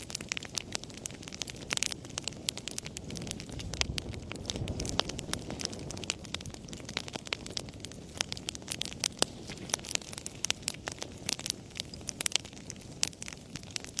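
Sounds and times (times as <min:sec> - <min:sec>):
burning logs snapping: 0:00.0 - 0:14.0
low rumble of flames: 0:00.0 - 0:14.0.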